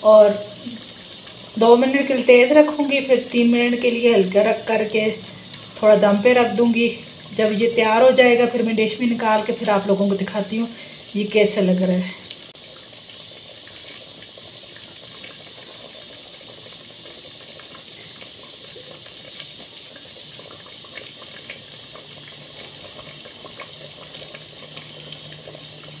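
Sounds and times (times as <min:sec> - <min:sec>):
bubbling gravy crackles and pops: 0:00.0 - 0:26.0
curry simmering with hiss: 0:00.0 - 0:26.0.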